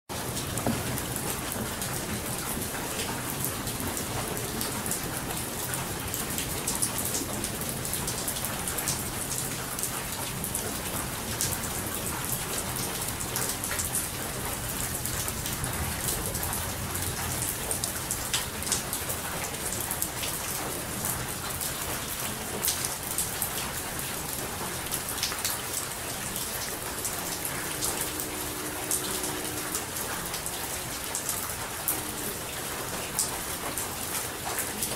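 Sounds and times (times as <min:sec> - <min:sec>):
raindrops ticking on surface: 0:00.1 - 0:34.9
steady rain falling: 0:00.1 - 0:34.9.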